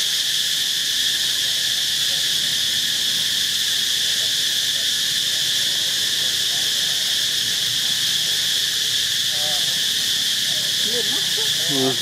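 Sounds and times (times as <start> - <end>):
insects buzzing chorus: 0.0 - 12.0.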